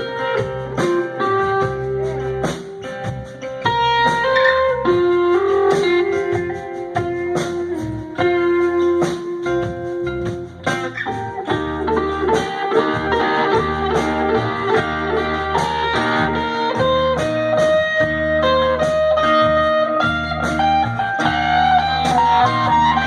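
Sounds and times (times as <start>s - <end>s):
blues band playing live: 0.0s - 23.0s
electric guitar solo: 0.0s - 23.0s.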